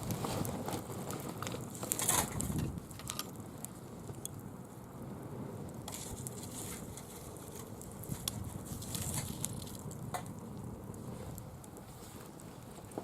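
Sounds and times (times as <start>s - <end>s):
bonfire crackling: 0.0s - 13.0s
fire hissing flare-ups: 0.0s - 13.0s.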